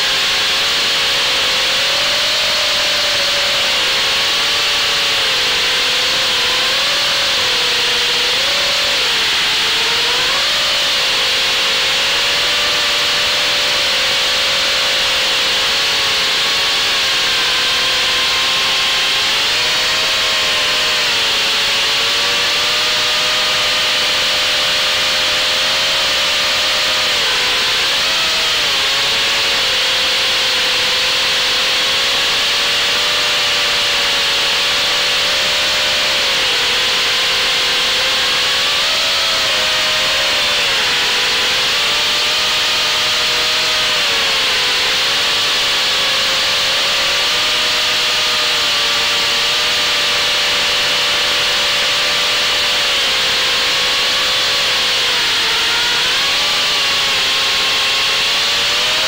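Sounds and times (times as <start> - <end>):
quadcopter motors buzzing whine: 0.0 - 59.0.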